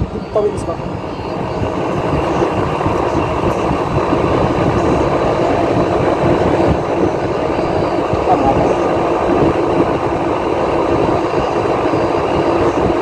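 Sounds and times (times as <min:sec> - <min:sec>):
air conditioner unit running: 0:00.0 - 0:13.0.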